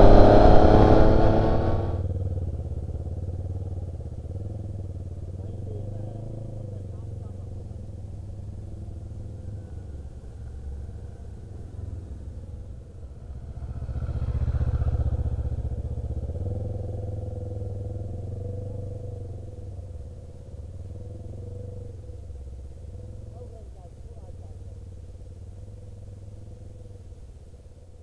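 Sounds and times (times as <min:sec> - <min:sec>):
motorcycle riding past: 0:00.0 - 0:28.0.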